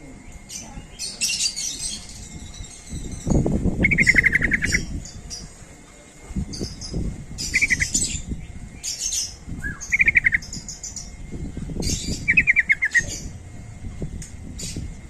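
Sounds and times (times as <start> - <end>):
bird chirping: 0.3 - 5.5, 6.5 - 13.4
scratchy bird chatter: 0.4 - 13.4
low rumbling background: 1.6 - 15.0.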